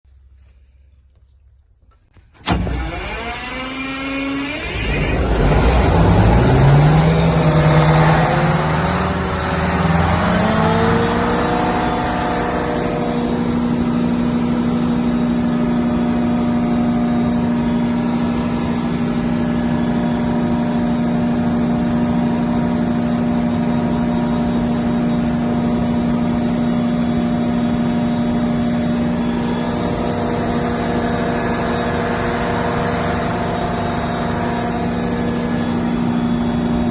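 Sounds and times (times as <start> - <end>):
generator diesel engine revving up: 2.4 - 36.9.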